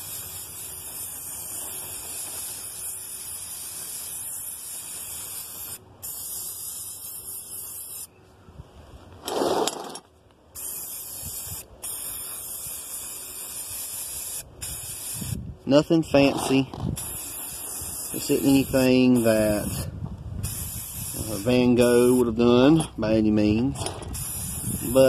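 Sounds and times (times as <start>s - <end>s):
spray paint hissing from can: 0.0s - 8.1s, 10.5s - 22.9s, 23.7s - 25.0s.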